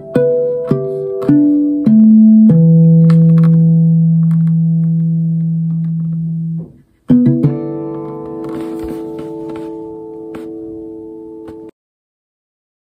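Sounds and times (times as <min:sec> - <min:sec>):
guitar notes plucked: 0:00.0 - 0:11.7.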